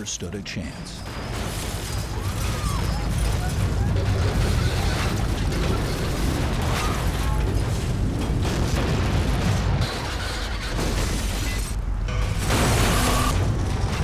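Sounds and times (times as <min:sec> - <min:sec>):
cracks and crashes: 0:01.1 - 0:14.0.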